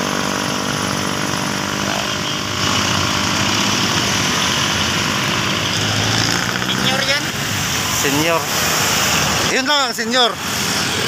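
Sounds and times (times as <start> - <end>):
rushing noise: 0.0 - 11.0.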